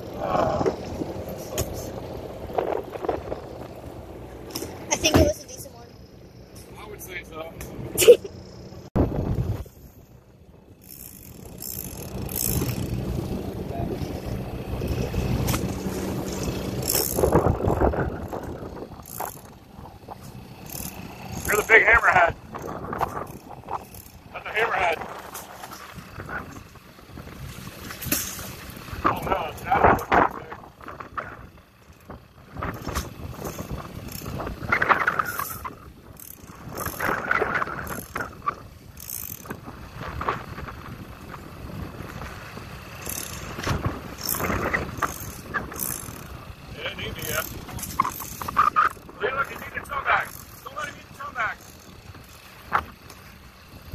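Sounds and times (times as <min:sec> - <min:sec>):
wind on microphone: 0:00.0 - 0:05.3, 0:09.0 - 0:09.9, 0:11.5 - 0:50.0
boat engine humming: 0:00.0 - 0:53.9.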